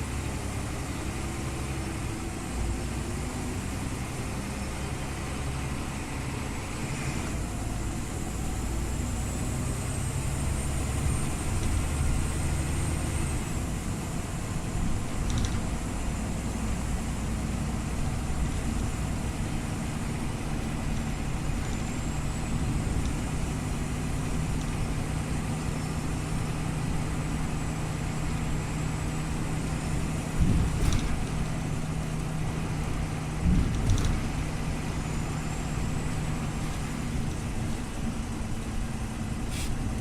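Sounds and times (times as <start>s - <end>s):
bus engine hum: 0.0s - 40.0s.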